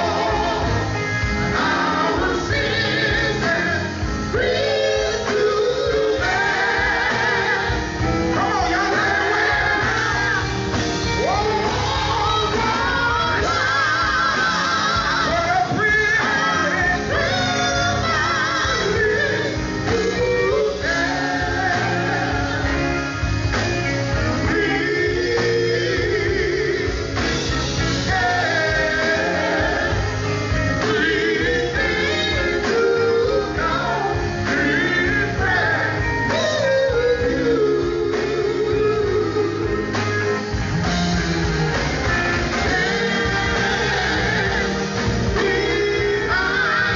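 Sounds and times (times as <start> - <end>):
male quartet singing: 0.0 - 40.2, 40.8 - 46.9
band playing: 0.0 - 46.9.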